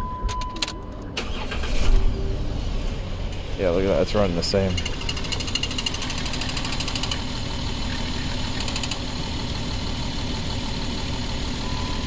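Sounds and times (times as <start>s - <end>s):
car engine idling unevenly: 0.9s - 12.0s.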